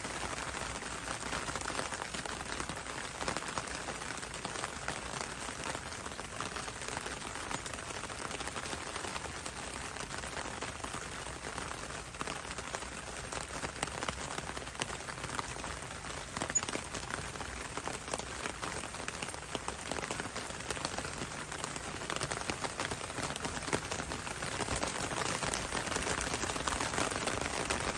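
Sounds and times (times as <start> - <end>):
rain pattering on hard surfaces: 0.0 - 27.9.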